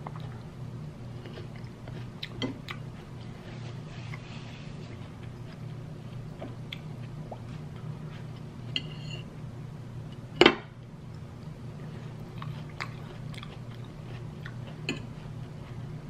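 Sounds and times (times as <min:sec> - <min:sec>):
person chewing fruit: 0:00.0 - 0:08.8, 0:11.0 - 0:16.0
low steady hum: 0:00.0 - 0:16.0.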